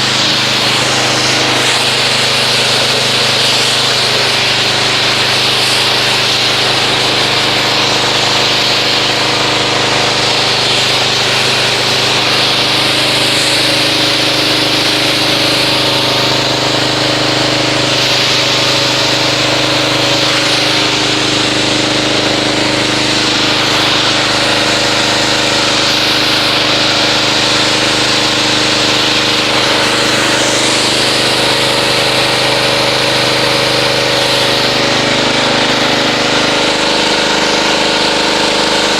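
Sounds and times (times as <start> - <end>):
pressure washer motor humming: 0.0 - 38.9
water spray hissing: 0.0 - 38.9.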